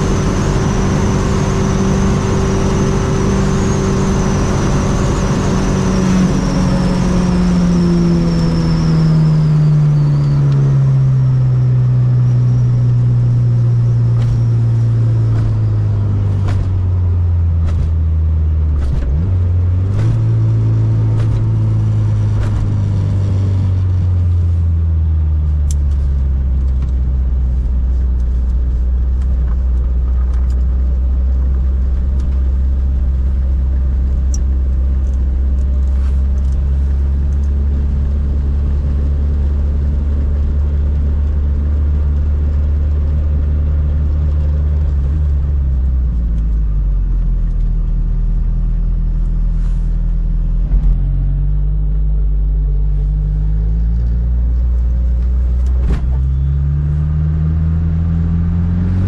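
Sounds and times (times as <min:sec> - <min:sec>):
car engine cruising: 0:00.0 - 0:59.0.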